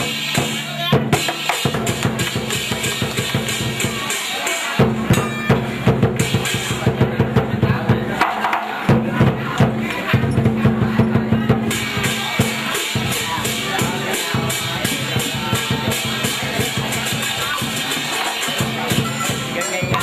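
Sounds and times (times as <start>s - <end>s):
fast loud drumming: 0.0s - 20.0s.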